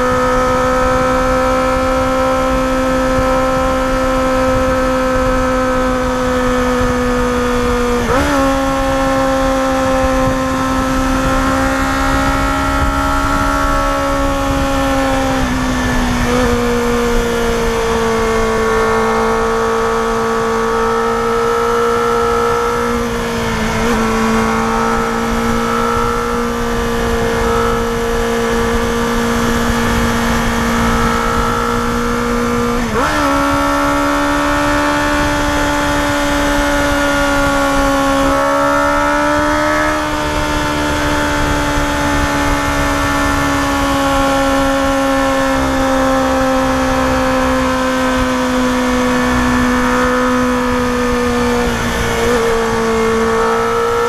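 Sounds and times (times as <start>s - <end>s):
motorcycle engine at high rpm: 0.0s - 54.0s
wind rush: 0.0s - 54.0s.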